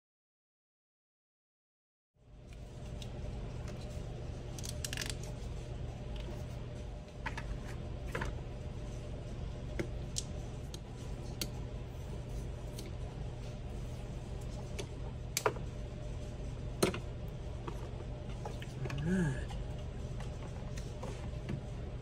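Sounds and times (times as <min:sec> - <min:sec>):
steady low hum: 0:02.2 - 0:22.0.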